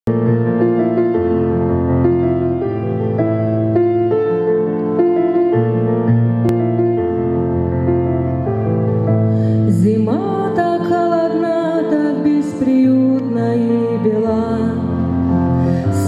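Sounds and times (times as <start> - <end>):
digital piano slow intro: 0.1 - 11.7, 12.4 - 16.0.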